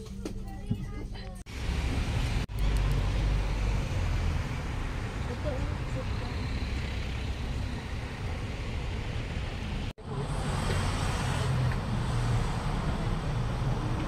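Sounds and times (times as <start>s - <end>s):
road traffic hum: 1.4s - 14.0s.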